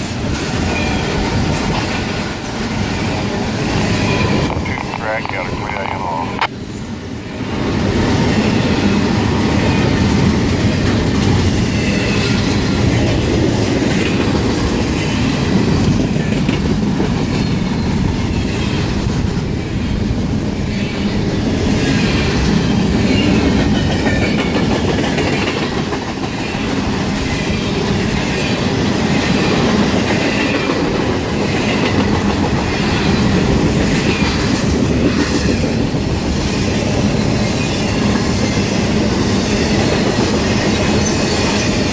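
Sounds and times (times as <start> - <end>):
freight train rumbling past: 0.0 - 41.9
rhythmic clickety-clack of wheels: 7.4 - 41.9.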